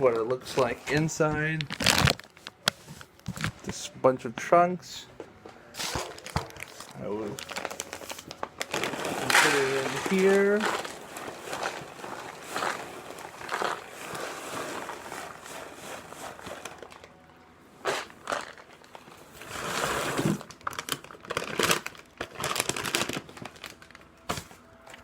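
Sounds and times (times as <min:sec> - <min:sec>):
cat litter bag crinkling and rustling: 0:00.0 - 0:03.7, 0:05.8 - 0:17.2, 0:17.8 - 0:25.0.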